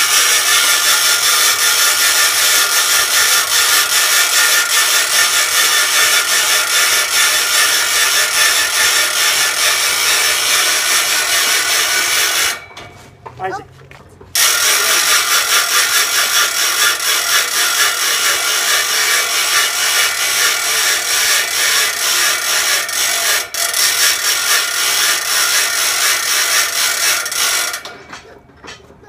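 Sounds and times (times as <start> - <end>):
hand-cranked winch rasping: 0.0 - 12.9, 14.3 - 29.0.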